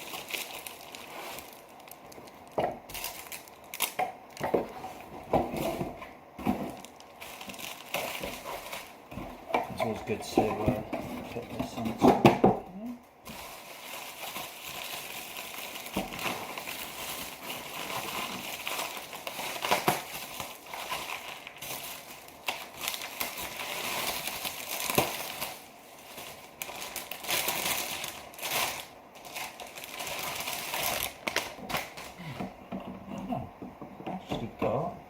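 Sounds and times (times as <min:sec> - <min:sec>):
plastic packaging crinkling: 0:00.0 - 0:12.2, 0:13.2 - 0:32.3.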